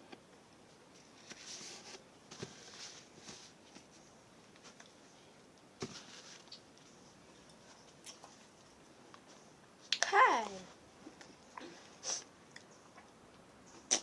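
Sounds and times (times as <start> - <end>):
soft rustles: 0.7 - 12.3.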